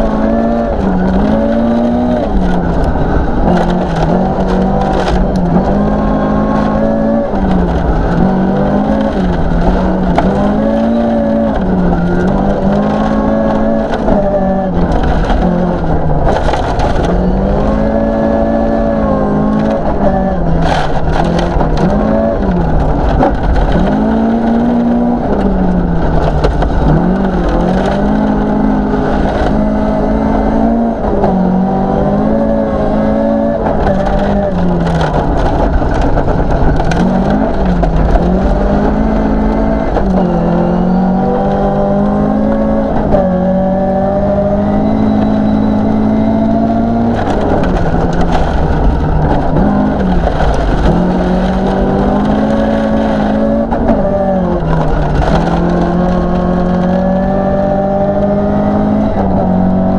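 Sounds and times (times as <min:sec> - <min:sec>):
gravel crunching under tyres: 0:00.0 - 0:59.9
rally car engine revving: 0:00.0 - 0:59.9.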